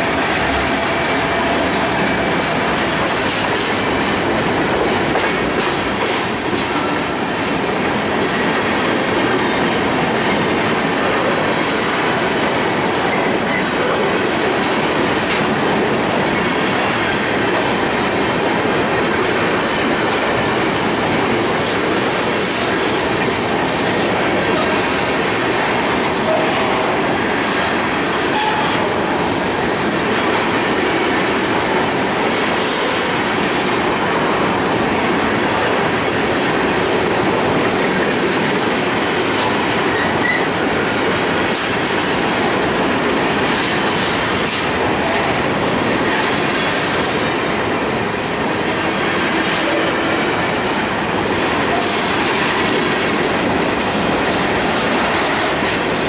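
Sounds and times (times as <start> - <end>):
train wheels rumbling on rails: 0.0 - 56.0
clickety-clack over rail joints: 2.7 - 56.0.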